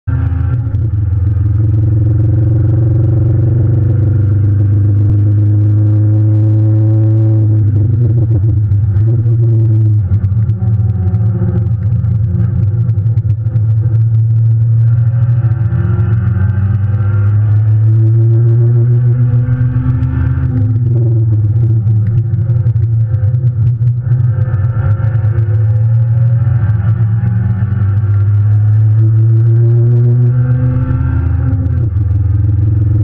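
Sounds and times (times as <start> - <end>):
car engine revving inside cabin: 0.0 - 33.0.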